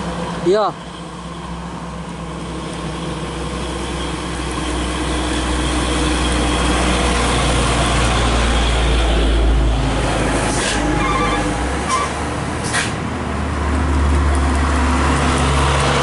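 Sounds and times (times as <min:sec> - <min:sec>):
heavy vehicle engine rumble: 0:00.0 - 0:16.0.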